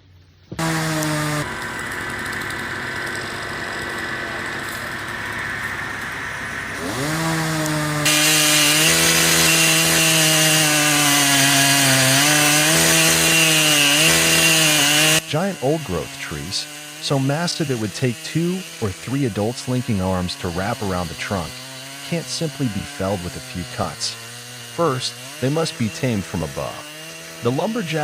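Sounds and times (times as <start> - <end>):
chainsaw cutting wood: 0.5 - 28.0
chainsaw running: 0.6 - 28.0.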